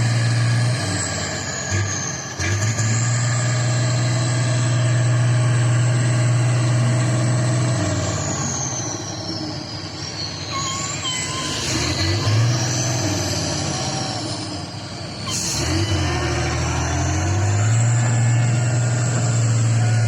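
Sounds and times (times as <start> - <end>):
heavy truck engine droning: 0.0 - 20.0.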